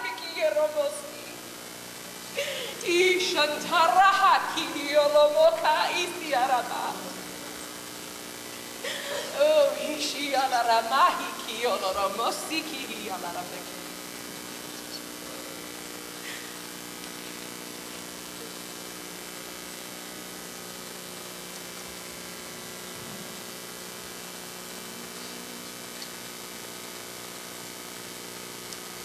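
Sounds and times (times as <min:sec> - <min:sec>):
background hiss: 0:00.0 - 0:29.0
electrical mains hum and buzz: 0:00.0 - 0:29.0.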